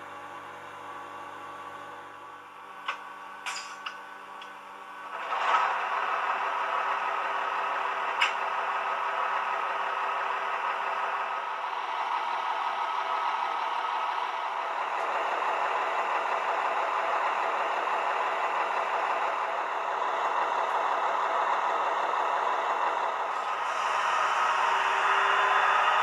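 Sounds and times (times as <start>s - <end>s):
diesel engine sound from small speaker: 4.1s - 26.0s.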